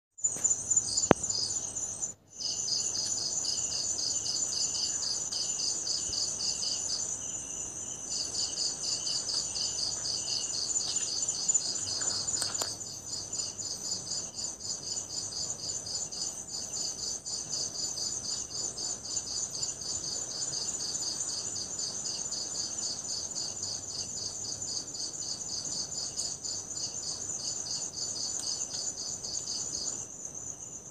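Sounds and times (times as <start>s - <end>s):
low pulsing insect layer: 0.2s - 30.9s.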